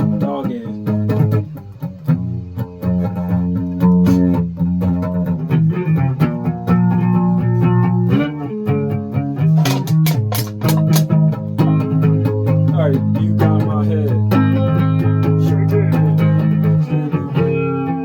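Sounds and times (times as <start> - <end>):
low bass guitar line: 0.0 - 18.0
plucked guitar notes: 0.0 - 18.0.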